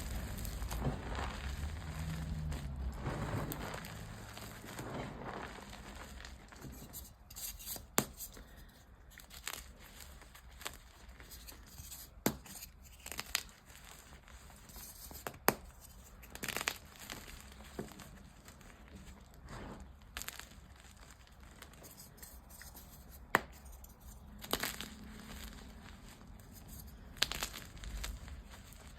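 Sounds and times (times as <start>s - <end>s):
chalk crunching and crackling: 0.0s - 28.9s.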